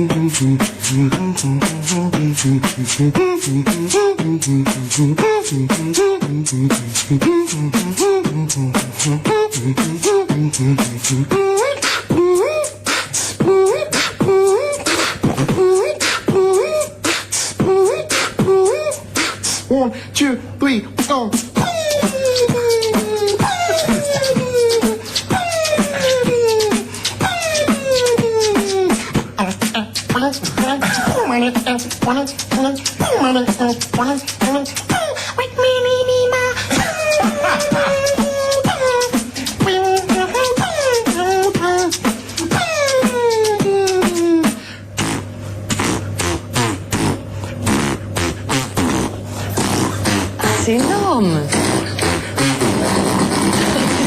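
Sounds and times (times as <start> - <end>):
beatboxing mouth clicks and hits: 0.0 - 19.8, 21.0 - 35.4, 36.4 - 54.0
falling vocal sweep: 0.0 - 19.8, 21.5 - 54.0.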